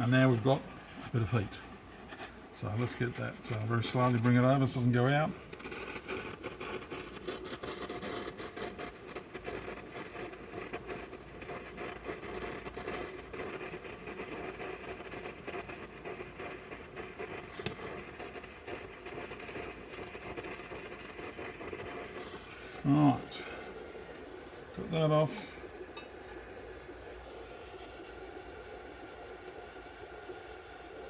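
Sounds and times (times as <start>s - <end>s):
gas torch flame hissing: 0.0s - 31.0s.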